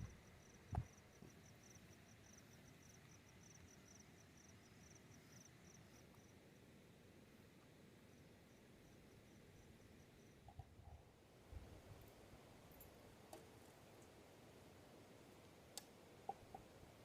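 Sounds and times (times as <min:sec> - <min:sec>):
crickets chirping: 0:00.0 - 0:15.4.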